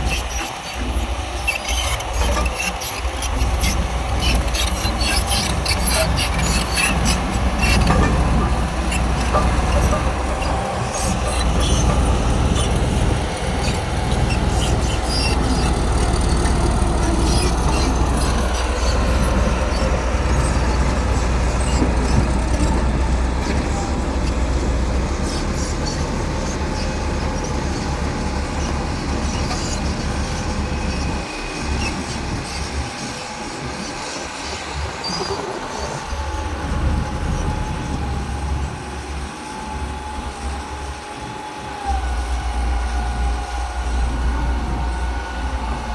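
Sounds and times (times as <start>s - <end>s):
bulldozer diesel engine: 0.0s - 45.9s
crawler tracks clanking and squealing: 0.0s - 45.9s.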